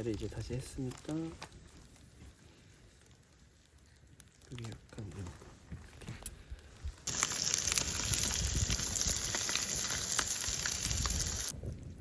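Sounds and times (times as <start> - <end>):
sizzling and crackling over fire: 0.0 - 12.0.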